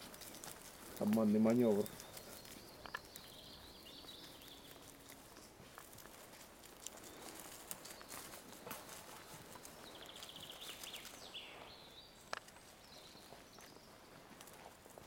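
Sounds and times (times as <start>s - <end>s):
rustling in dry leaves: 0.0s - 15.0s.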